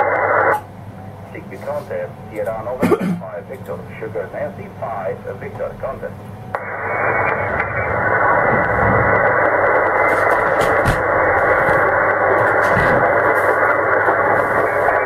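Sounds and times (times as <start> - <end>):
radio static noise: 0.0 - 0.6, 1.3 - 15.0.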